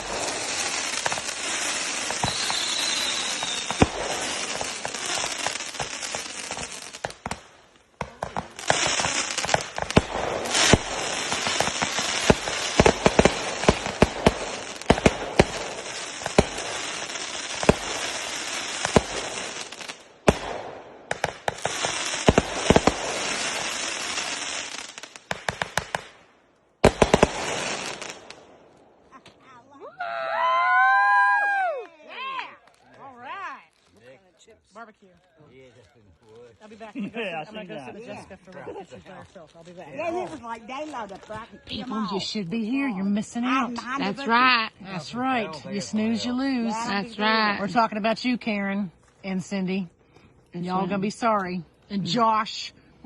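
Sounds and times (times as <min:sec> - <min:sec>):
fireworks crackling and popping: 0:00.0 - 0:52.8.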